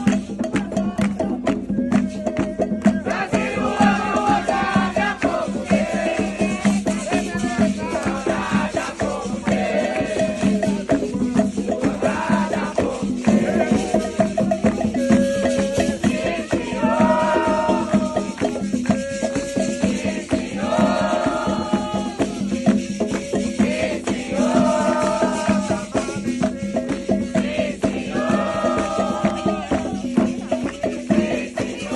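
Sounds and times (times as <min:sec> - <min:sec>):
voices singing a chant: 0:00.0 - 0:31.9
rattles shaking: 0:05.1 - 0:31.9.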